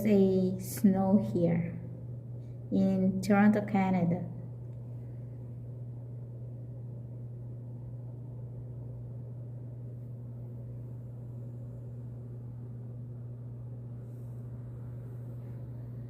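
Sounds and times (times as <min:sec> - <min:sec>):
faint rumbling hiss: 0:00.0 - 0:16.0
steady low hum: 0:00.0 - 0:16.0.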